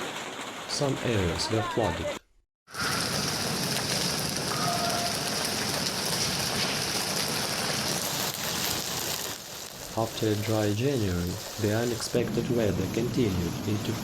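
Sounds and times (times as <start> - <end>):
heavy rain on hard surfaces: 0.0 - 14.0.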